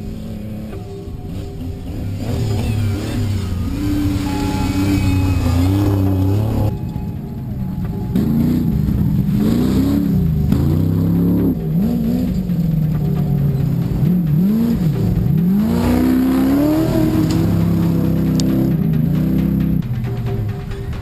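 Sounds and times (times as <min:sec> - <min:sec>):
truck engine revving hard: 0:00.0 - 0:19.9.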